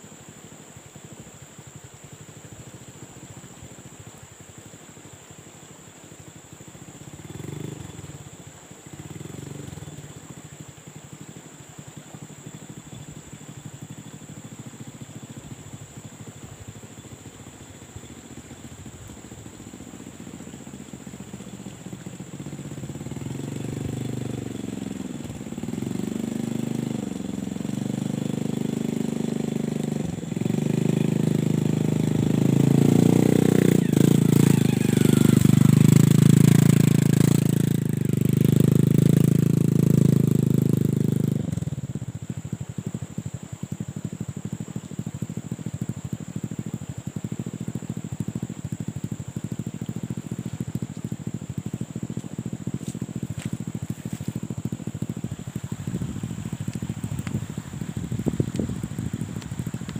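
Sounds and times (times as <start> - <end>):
motorcycle engine revving: 6.5 - 59.9.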